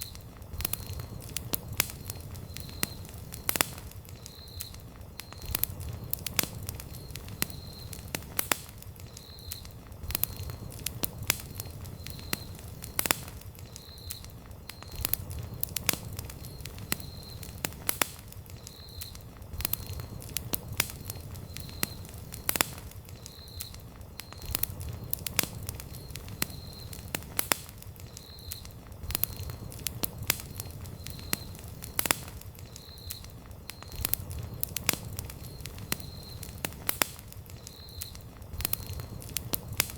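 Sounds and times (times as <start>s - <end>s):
campfire crackles and pops: 0.0s - 39.9s
low rumble of flames: 0.0s - 39.9s.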